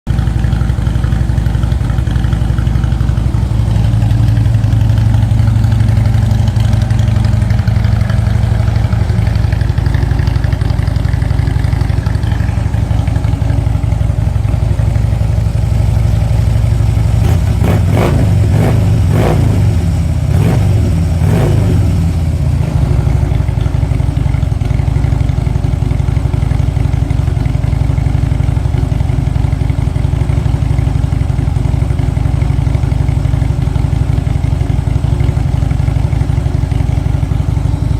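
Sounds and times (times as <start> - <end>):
motorcycle engine idling and revving: 0.1 - 37.9.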